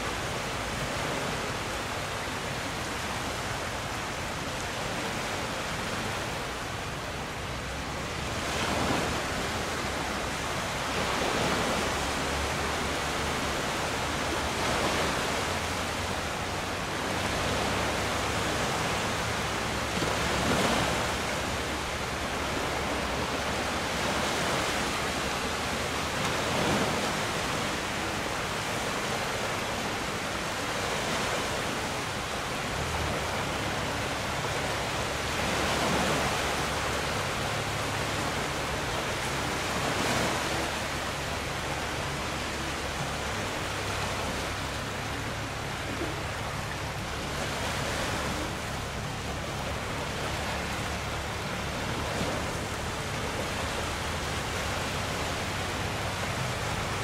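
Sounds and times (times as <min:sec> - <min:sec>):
water rushing past boat: 0:00.0 - 0:57.0.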